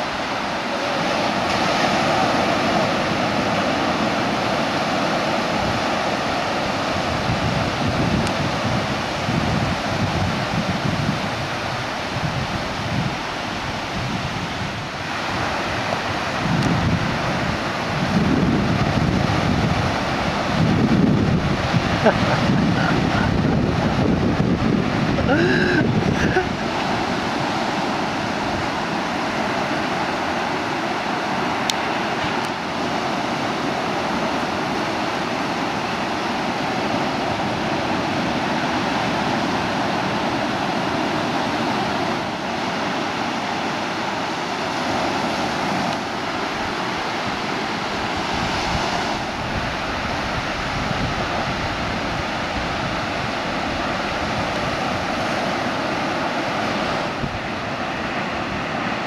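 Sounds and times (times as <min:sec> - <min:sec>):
waves breaking on shore: 0:00.0 - 0:59.0
wind buffeting microphone: 0:00.0 - 0:59.0.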